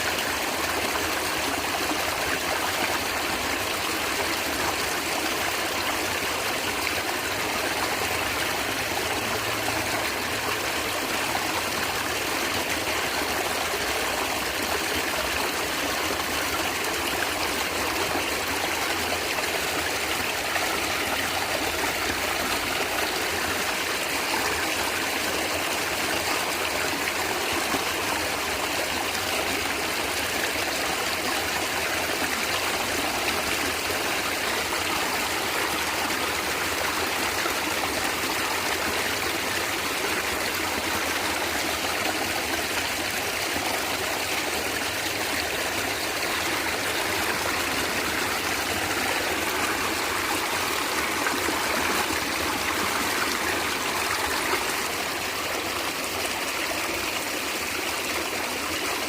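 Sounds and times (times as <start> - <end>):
stream gurgling over stones: 0.0 - 59.0.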